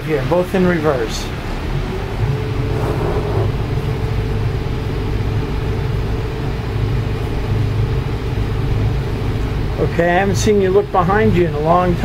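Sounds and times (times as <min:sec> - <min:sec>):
diesel engines droning: 0:00.0 - 0:12.0.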